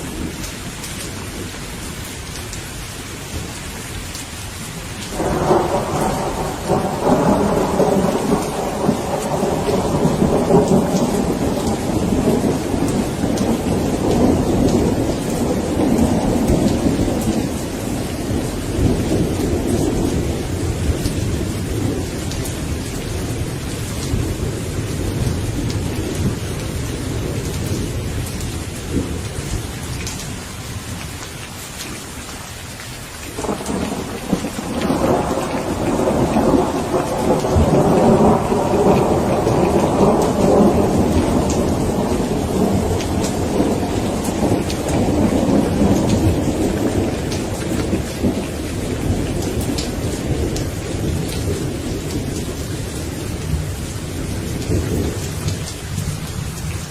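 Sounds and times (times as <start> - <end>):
steady rain: 0.0 - 56.9
thunder rumbling: 5.1 - 30.5, 33.4 - 56.9.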